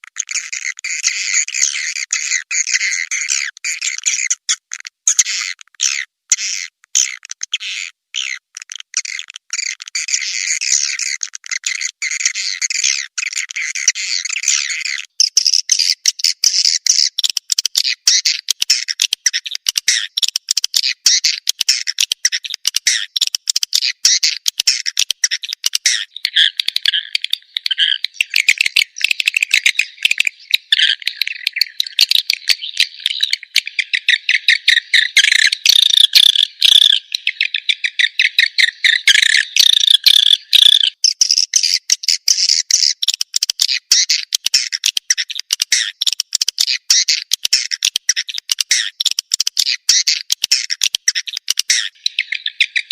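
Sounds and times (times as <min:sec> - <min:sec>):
swiftlet chirps and twittering: 0:09.6 - 0:52.9.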